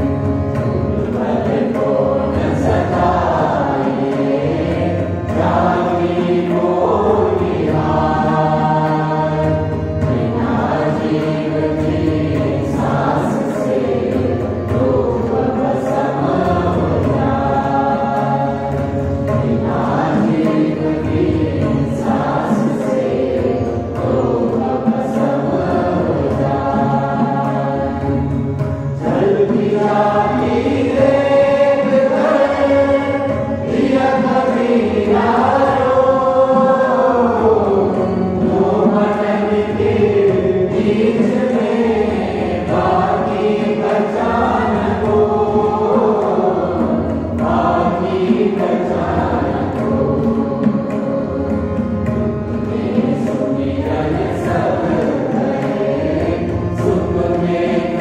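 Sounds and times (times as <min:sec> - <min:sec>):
group of voices singing: 0:00.0 - 0:58.0.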